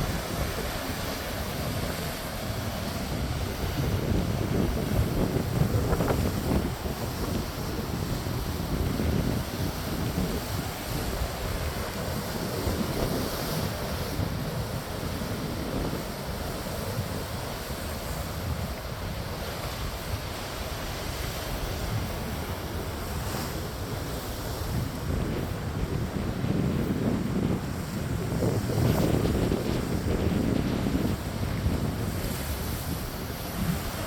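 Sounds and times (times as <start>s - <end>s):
ocean waves breaking: 0.0s - 34.0s
wind buffeting microphone: 0.0s - 34.0s.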